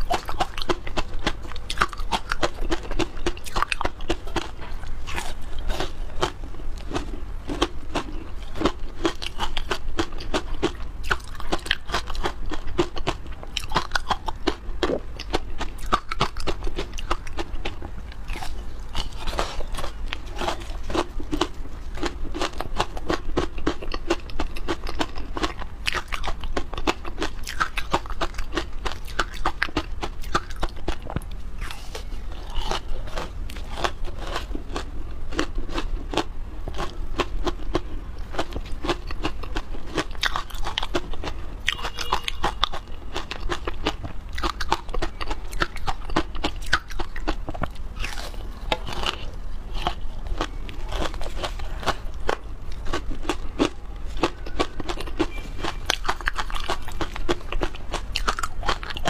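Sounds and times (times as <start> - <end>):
ice crunching between teeth: 0.0 - 59.0.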